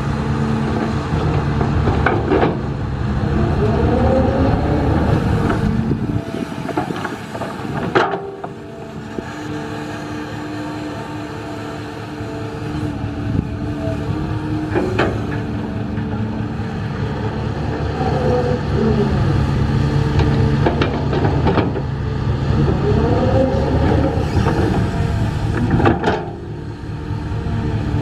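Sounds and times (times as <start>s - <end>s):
heavy construction machine engine: 0.0s - 28.0s.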